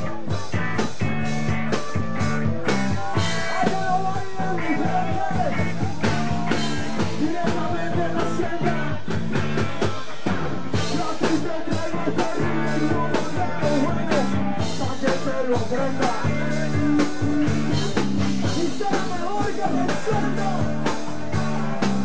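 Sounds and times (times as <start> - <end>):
drum kit steady beat: 0.0 - 22.0
electric bass: 0.0 - 22.0
electric guitars: 0.0 - 22.0.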